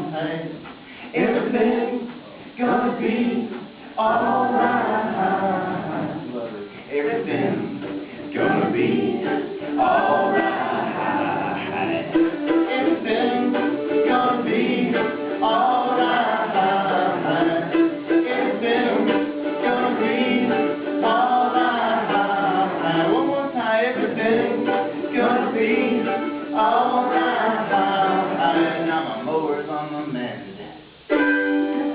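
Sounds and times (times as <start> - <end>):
voices singing along: 0.0 - 30.4
guitar: 0.0 - 31.9
mandolin picked and strummed: 2.0 - 29.7, 30.9 - 31.9.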